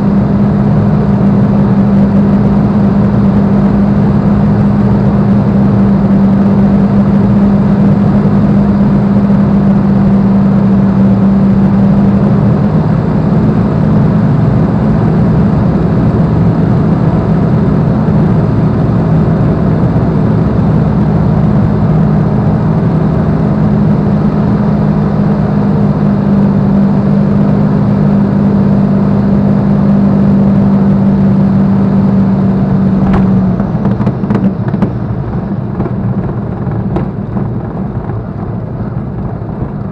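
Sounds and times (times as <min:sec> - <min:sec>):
aircraft piston engine drone: 0:00.0 - 0:39.9.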